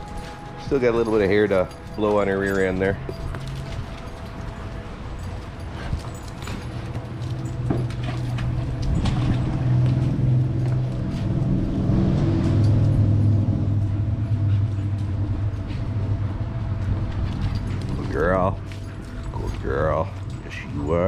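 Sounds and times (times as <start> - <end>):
vehicle engine hum: 0.0 - 20.9.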